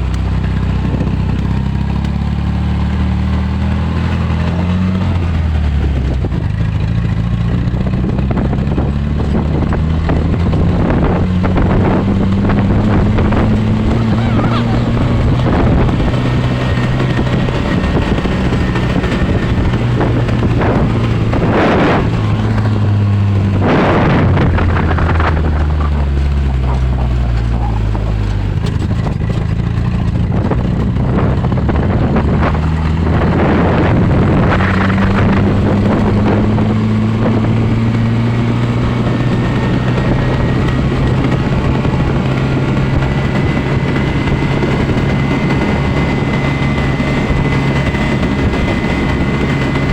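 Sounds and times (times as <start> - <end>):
vehicle engine running: 0.0 - 49.9
wind noise: 3.7 - 49.9.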